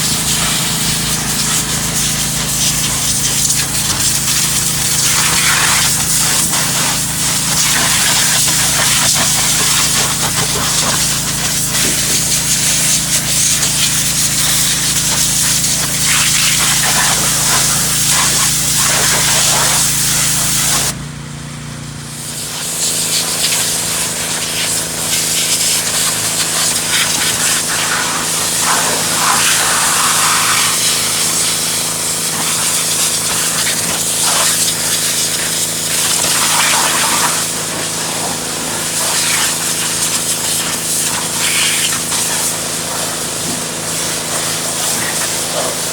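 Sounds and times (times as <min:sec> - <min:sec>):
pressure washer water jet hiss: 0:00.0 - 0:21.0, 0:22.1 - 0:45.9
pump drone: 0:00.0 - 0:45.9.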